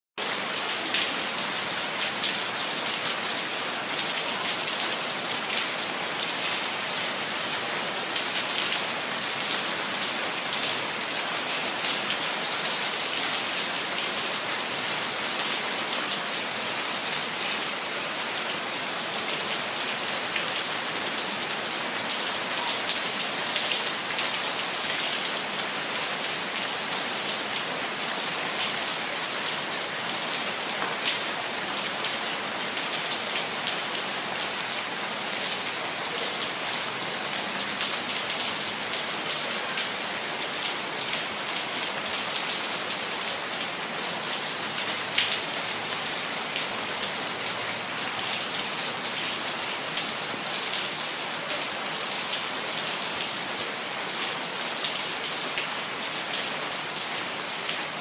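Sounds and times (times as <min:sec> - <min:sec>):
rain on a hard surface: 0:00.2 - 0:58.0.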